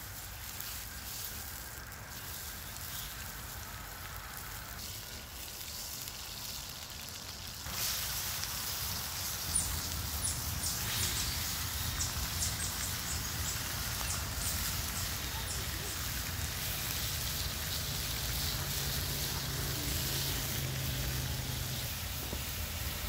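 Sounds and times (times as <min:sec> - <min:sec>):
steak sizzling: 0:00.0 - 0:23.0
fat crackling and spitting: 0:00.6 - 0:23.0.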